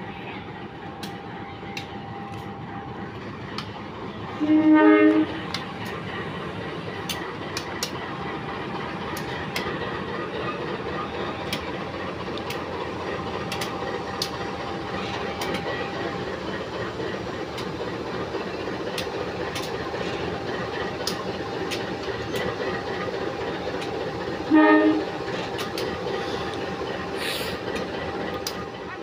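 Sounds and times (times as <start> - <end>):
diesel locomotive engine running: 0.0 - 29.0
train wheels clicking over rail joints: 5.1 - 29.0.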